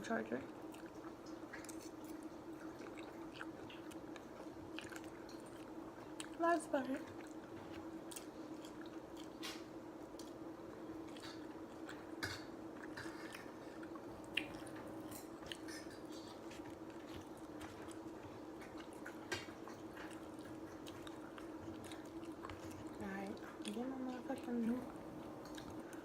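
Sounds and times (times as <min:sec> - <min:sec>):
steady low hum: 0:00.0 - 0:26.0
person chewing food: 0:00.5 - 0:26.0.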